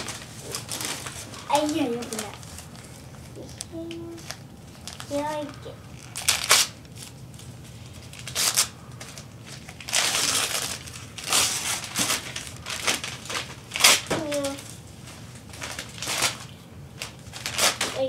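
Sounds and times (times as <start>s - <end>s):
wrapping paper tearing and rustling: 0.0s - 18.0s.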